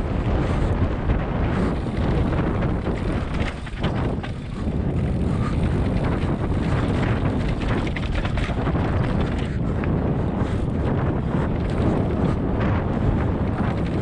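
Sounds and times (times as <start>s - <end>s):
bike clicks and rattles: 0.0s - 14.0s
bike tyres rolling on dirt: 0.0s - 14.0s
wind buffeting microphone: 0.0s - 14.0s.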